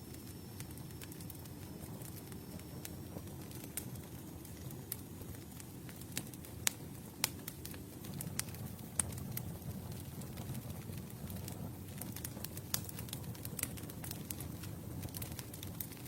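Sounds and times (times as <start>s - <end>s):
low rumble of flames: 0.0s - 16.0s
wood crackling and popping: 0.0s - 16.0s.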